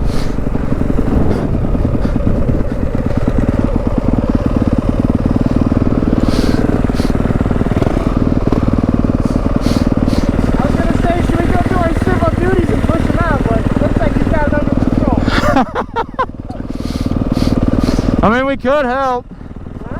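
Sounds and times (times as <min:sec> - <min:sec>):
dirt bike engine running: 0:00.0 - 0:19.9.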